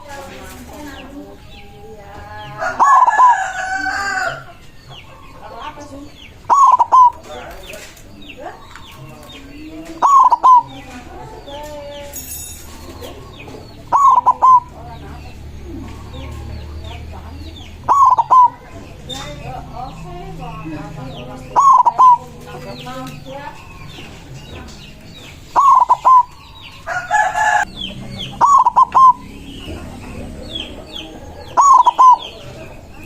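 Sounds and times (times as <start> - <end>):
dove cooing: 0.0 - 12.0, 12.7 - 33.0
small birds chirping: 0.0 - 33.0.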